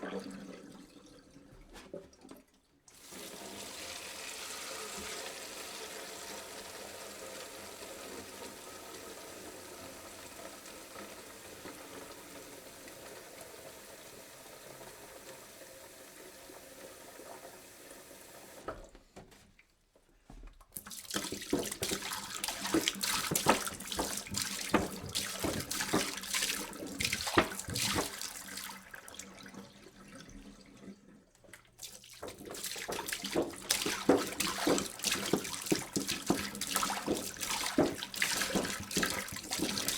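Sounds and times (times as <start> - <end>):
water pouring into a jug: 0.0 - 18.6, 20.8 - 39.9.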